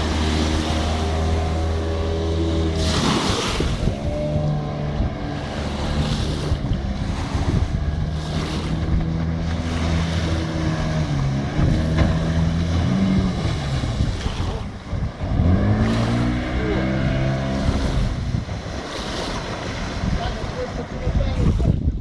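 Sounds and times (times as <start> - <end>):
outboard motor running: 0.0 - 22.0
water noise: 0.0 - 22.0
wind noise: 0.0 - 22.0.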